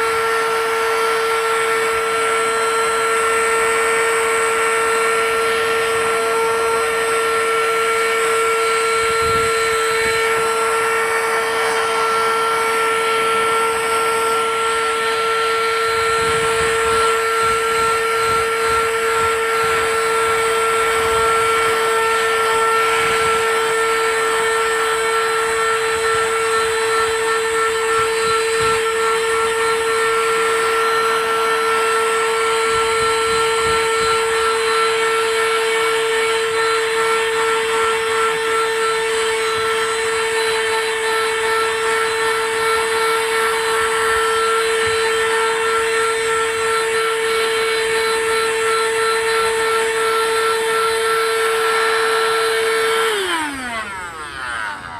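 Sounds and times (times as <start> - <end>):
handheld vacuum cleaner whining: 0.0 - 54.9.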